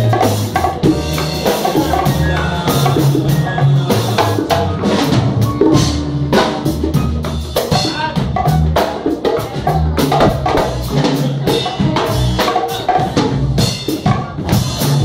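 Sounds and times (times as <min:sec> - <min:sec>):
djembe beating: 0:00.0 - 0:15.0
double bass: 0:00.0 - 0:15.0
drum kit: 0:00.0 - 0:15.0
piano: 0:00.0 - 0:15.0.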